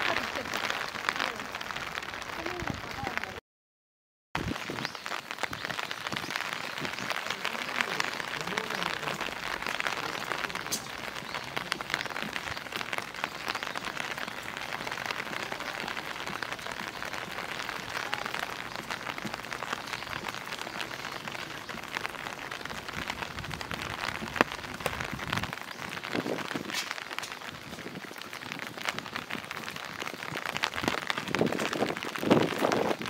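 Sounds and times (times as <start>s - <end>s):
steady rain: 0.0s - 3.4s, 4.4s - 33.0s.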